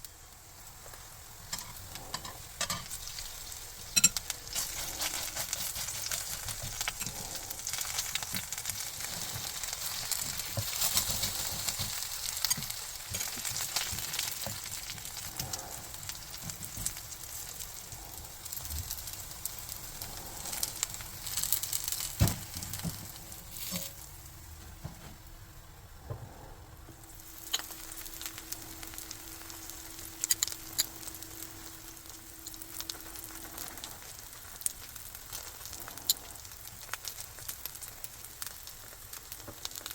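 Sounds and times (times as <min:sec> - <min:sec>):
food sizzling in a frying pan: 0:00.0 - 0:25.4, 0:27.0 - 0:39.9.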